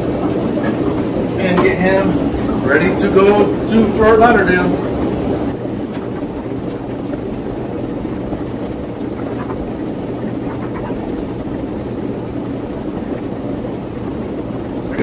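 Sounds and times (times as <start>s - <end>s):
equipment hum and hiss: 0.0s - 15.0s
faint water splashes: 0.0s - 15.0s.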